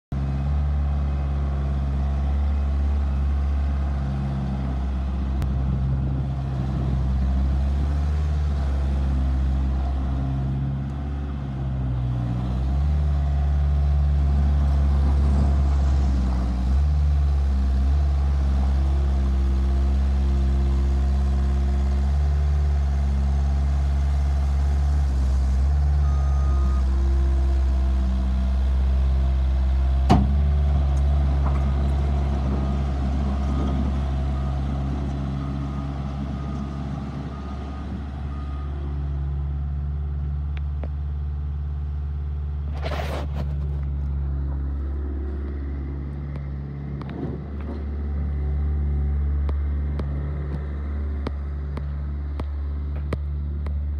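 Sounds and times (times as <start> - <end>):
diesel engine working: 0.1 - 53.9.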